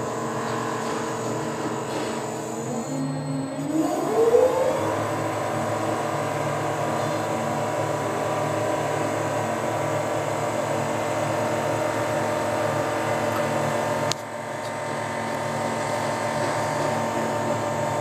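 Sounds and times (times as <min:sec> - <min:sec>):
crane hoist drive humming: 0:00.0 - 0:18.0.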